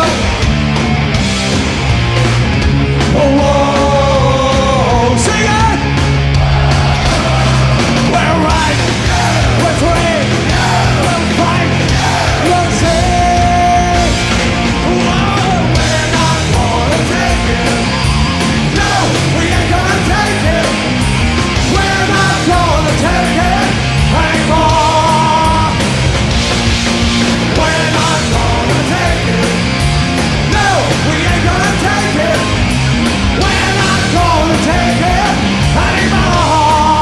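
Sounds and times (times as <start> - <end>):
rock song with singer and band: 0.0 - 37.0.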